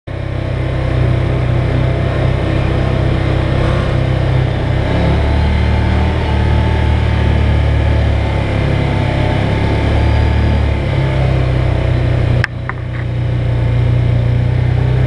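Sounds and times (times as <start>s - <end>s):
utility vehicle engine droning: 0.1s - 15.0s.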